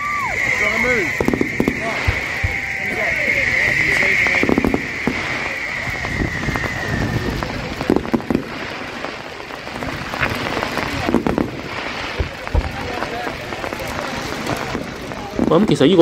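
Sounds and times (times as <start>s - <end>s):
crowd background noise: 0.0s - 16.0s
firework bangs and crackling: 0.0s - 16.0s
firework hiss: 0.0s - 16.0s.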